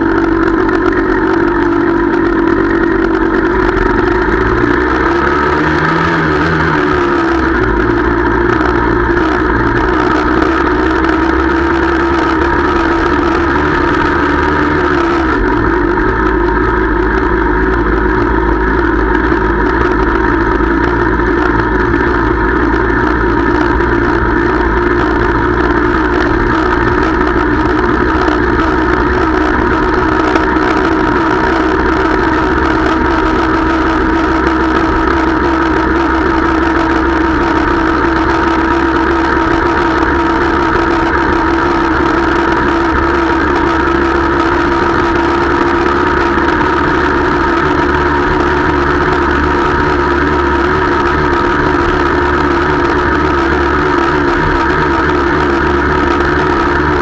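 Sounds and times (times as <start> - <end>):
two-stroke moped engine running: 0.0 - 57.0.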